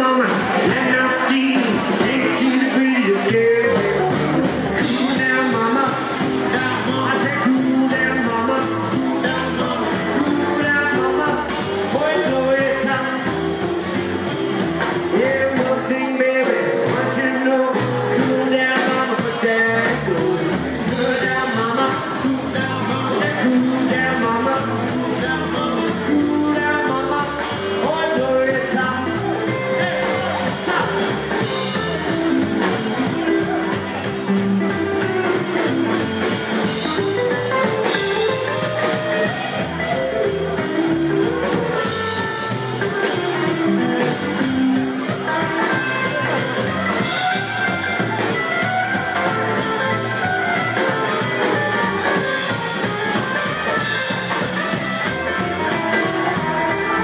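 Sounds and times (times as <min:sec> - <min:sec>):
drums keeping a steady beat: 0:00.0 - 0:57.0
electric and acoustic guitars: 0:00.0 - 0:57.0
rockabilly band playing: 0:00.0 - 0:57.0
upright double bass: 0:00.0 - 0:57.0.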